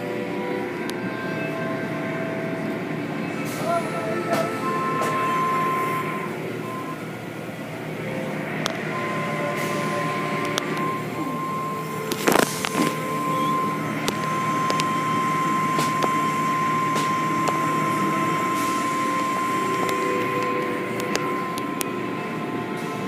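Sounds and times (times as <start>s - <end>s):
held whining tones: 0.0s - 23.0s
machinery hum: 0.0s - 23.0s.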